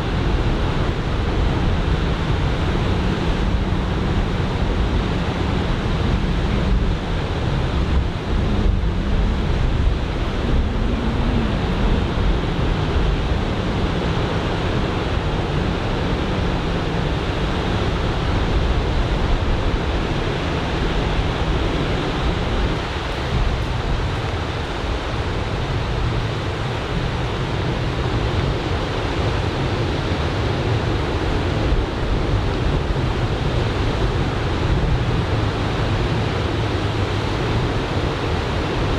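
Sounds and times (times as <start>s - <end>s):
wind buffeting microphone: 0.0s - 38.9s
ocean surf breaking: 0.1s - 38.9s.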